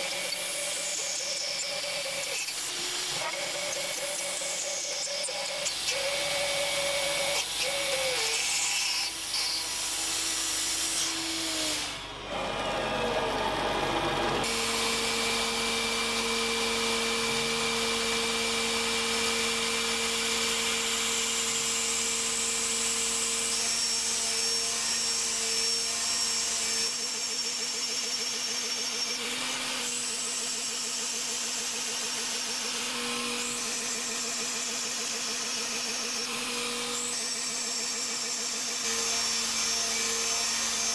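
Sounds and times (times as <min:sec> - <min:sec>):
router spindle whining: 0:00.0 - 0:40.9
thread mill cutting aluminium: 0:00.0 - 0:40.9.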